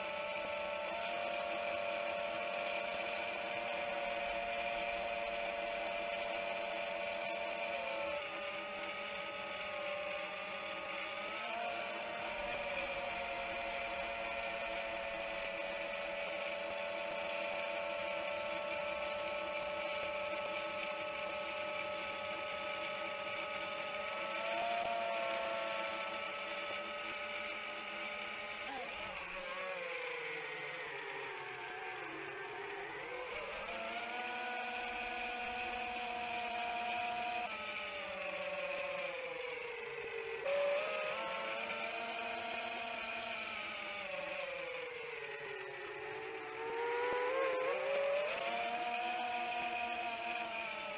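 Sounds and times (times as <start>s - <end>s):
quadcopter propellers whining: 0.0s - 50.9s.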